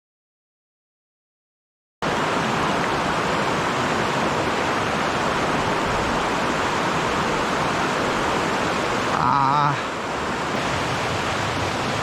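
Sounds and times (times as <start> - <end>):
stream water rushing: 2.0 - 12.0.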